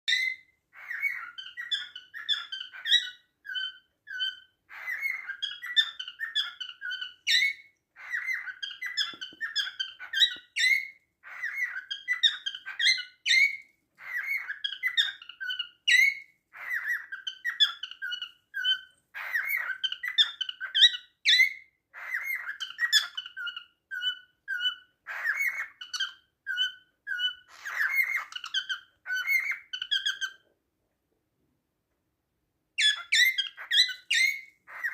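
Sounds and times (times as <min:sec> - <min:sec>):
cockatiel whistling chirps: 0:00.1 - 0:30.4, 0:32.8 - 0:34.9.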